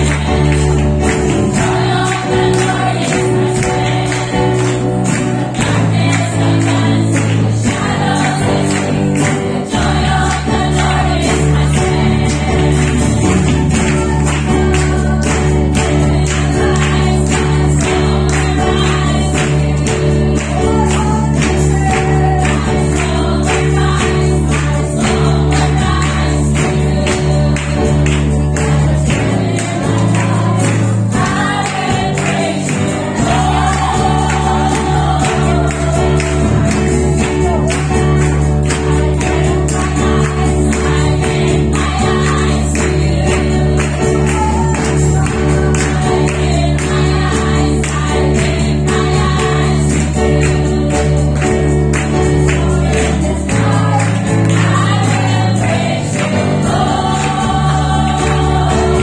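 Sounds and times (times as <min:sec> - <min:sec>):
bass accompaniment: 0:00.0 - 0:59.0
rhythmic beat: 0:00.0 - 0:59.0
women's choir singing: 0:00.0 - 0:59.0.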